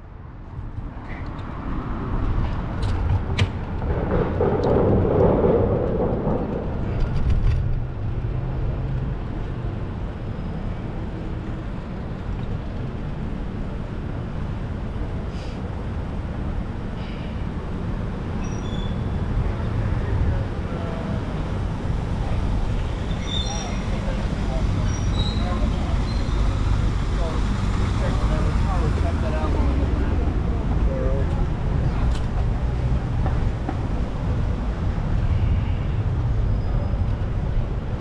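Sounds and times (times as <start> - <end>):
bicycle road rumble: 0.0 - 38.0
wind: 0.0 - 38.0.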